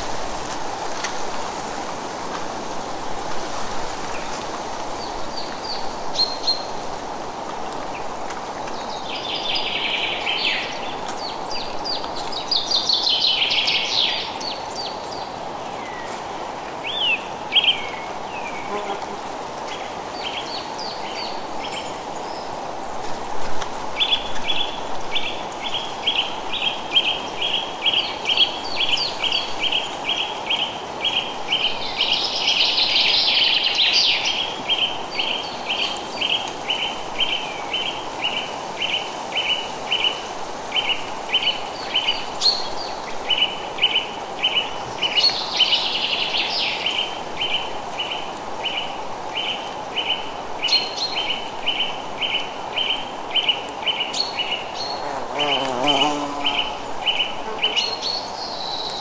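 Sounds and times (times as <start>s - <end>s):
wind hiss: 0.0s - 59.0s.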